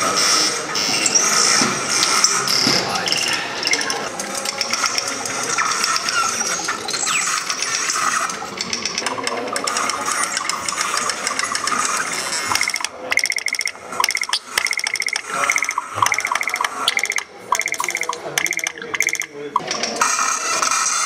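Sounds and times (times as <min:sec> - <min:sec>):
buzzing chatter: 0:00.0 - 0:21.0.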